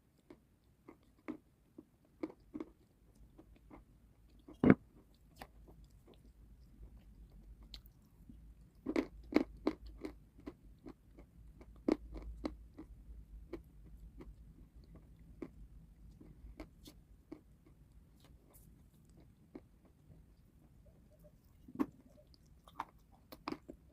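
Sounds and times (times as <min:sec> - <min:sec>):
crunchy food chewing: 0:00.1 - 0:23.9.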